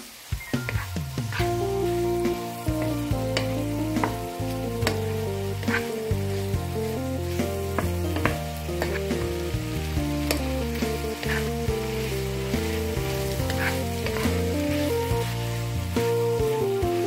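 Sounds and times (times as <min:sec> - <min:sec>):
food sizzling in a frying pan: 0:00.0 - 0:17.0
background music: 0:00.4 - 0:17.0.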